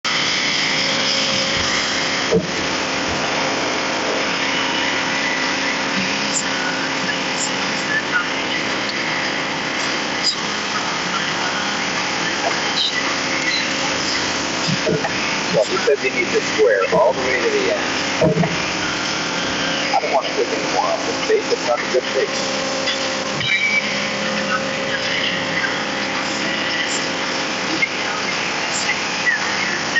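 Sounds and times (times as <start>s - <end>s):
machine motor drone: 0.0s - 29.9s
sawmill engine running: 0.0s - 29.9s.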